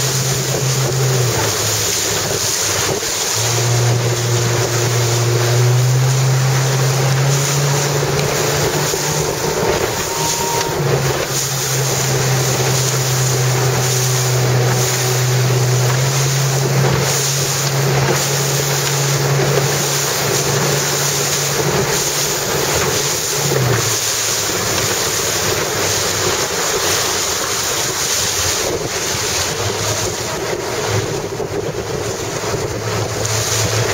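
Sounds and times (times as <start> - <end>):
boat engine humming: 0.0 - 33.9
rushing water: 0.0 - 33.9
wind buffeting microphone: 0.0 - 33.9.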